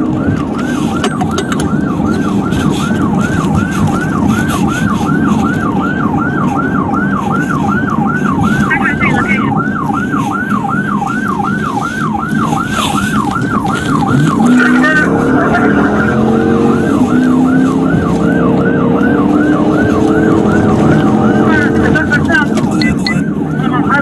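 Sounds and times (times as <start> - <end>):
engine and road noise: 0.0 - 24.0
police siren yelping: 0.0 - 24.0.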